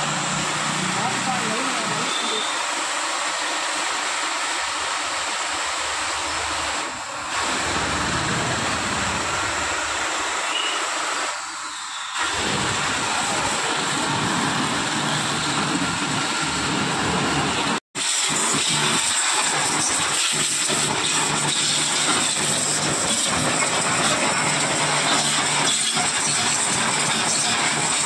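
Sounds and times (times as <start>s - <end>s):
motor and pump humming: 0.0s - 28.0s
pressure washer water jet hissing: 0.0s - 28.0s.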